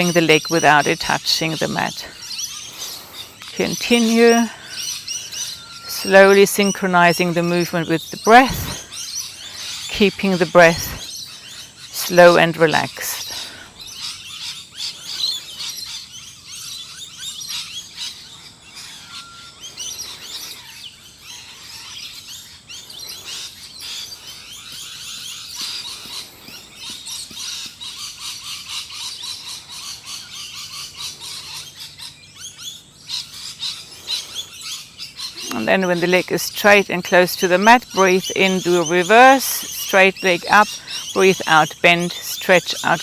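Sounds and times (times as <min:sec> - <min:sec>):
many birds chirping: 0:00.0 - 0:43.0.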